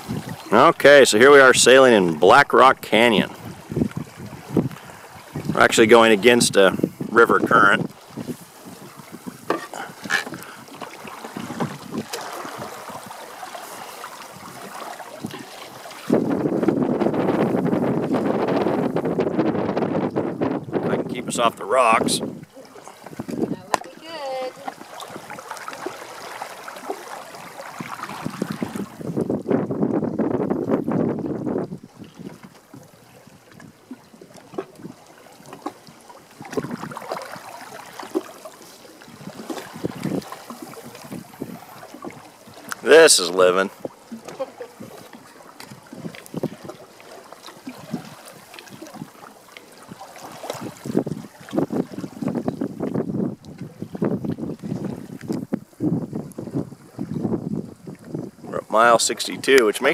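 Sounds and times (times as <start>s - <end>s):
light wind: 0.0s - 59.9s
water slapping against canoe hull: 0.0s - 59.9s.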